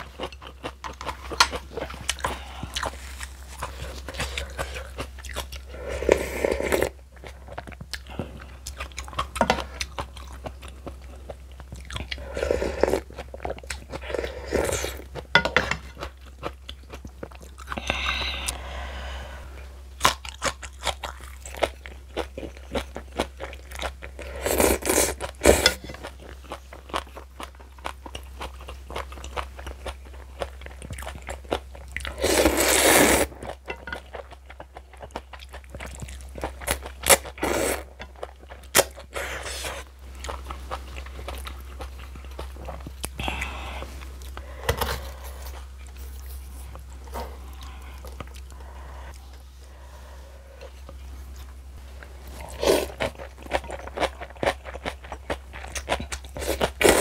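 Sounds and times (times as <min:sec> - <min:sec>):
crunching and chewing: 0:00.0 - 0:18.6, 0:20.0 - 0:49.4, 0:50.5 - 0:57.0.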